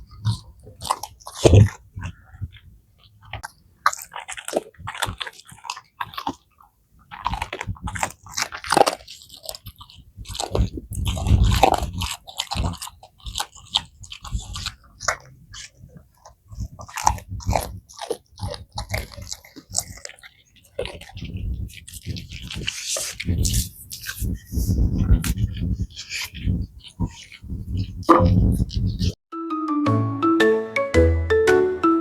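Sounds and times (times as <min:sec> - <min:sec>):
dog crunching bones: 0:00.0 - 0:29.2
wet chewing: 0:00.0 - 0:29.2.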